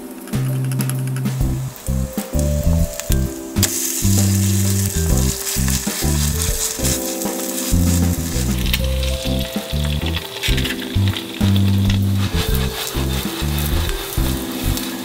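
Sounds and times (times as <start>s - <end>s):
background music: 0.0s - 15.0s
potato pancake sizzling in oil: 1.9s - 15.0s.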